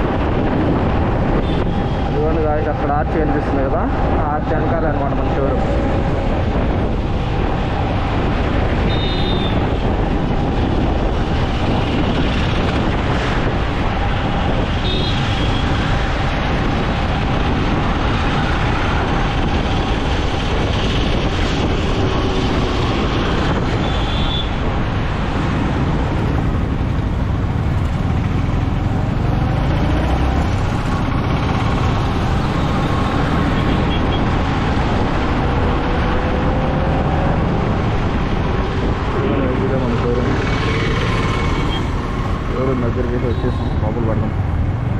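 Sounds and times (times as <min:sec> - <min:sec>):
motorcycle engine and road noise: 0:00.0 - 0:44.9
passing vehicles: 0:00.0 - 0:44.9.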